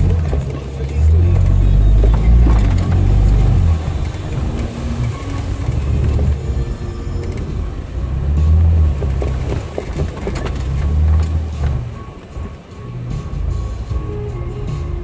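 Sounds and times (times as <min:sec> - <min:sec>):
vehicle engine rumbling in mud: 0:00.0 - 0:15.0.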